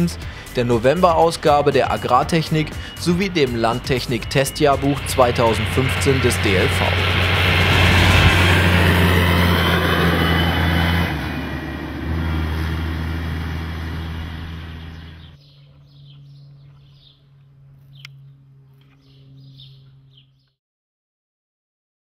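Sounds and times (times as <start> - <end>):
farm vehicle engine droning: 0.0 - 20.5.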